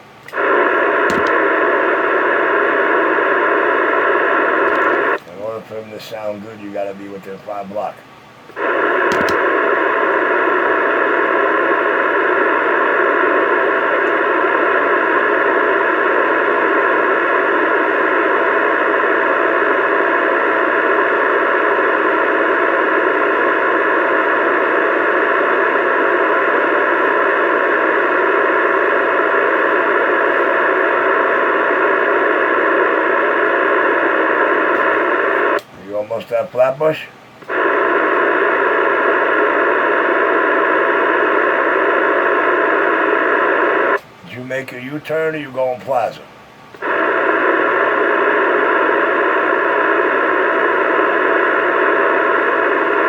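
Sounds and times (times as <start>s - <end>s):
radio static hiss: 0.0s - 53.0s.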